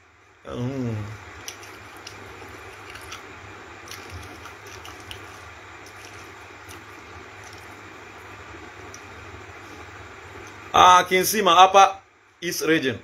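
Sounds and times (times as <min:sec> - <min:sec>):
low hum: 0:00.0 - 0:10.8
background hiss: 0:00.0 - 0:13.0.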